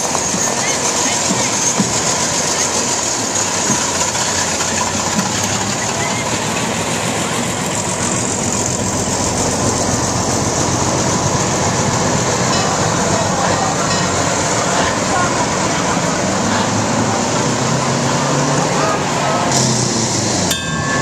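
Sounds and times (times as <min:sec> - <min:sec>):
crowd noise: 0:00.0 - 0:21.0
fire engines driving past: 0:00.0 - 0:21.0.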